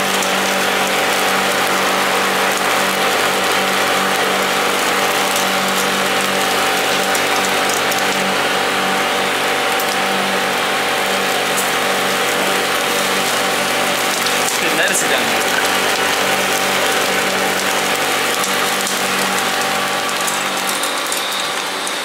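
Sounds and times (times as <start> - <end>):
meat sizzling on a grill: 0.0 - 22.0
mechanical hum: 0.0 - 22.0.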